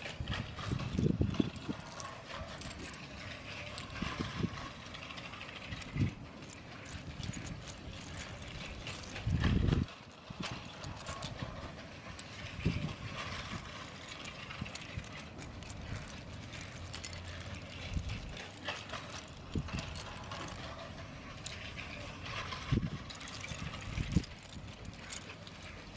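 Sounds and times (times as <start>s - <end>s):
toy train wheels clattering: 0.0s - 25.9s.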